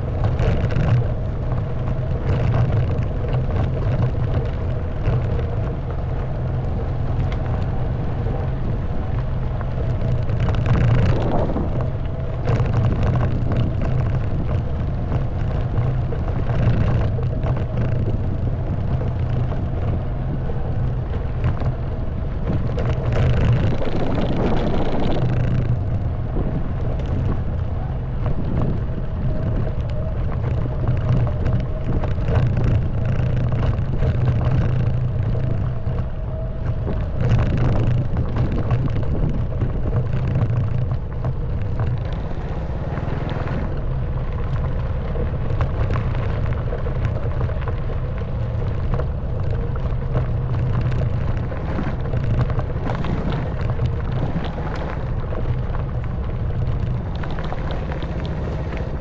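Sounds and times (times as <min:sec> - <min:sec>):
wind noise rushing: 0:00.0 - 0:33.2, 0:35.7 - 0:46.5, 0:50.0 - 0:59.0
motorcycle engine running: 0:00.0 - 0:59.0.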